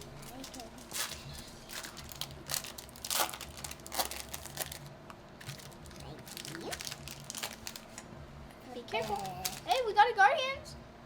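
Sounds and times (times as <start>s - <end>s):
foil wrapper crinkling: 0.0s - 8.0s, 9.0s - 10.0s.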